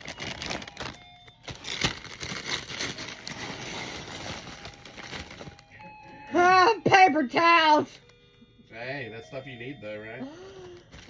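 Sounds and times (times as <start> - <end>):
gift wrapping paper rustling: 0.0 - 8.2, 9.4 - 11.0.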